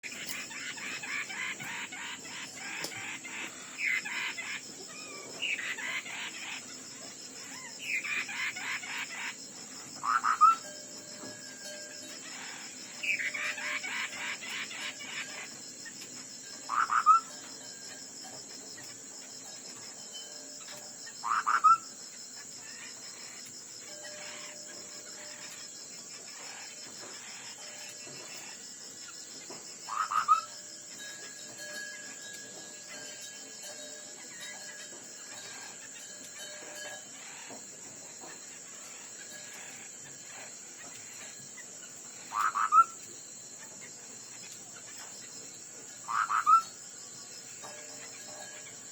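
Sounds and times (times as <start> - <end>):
songbird singing: 0.0 - 48.9.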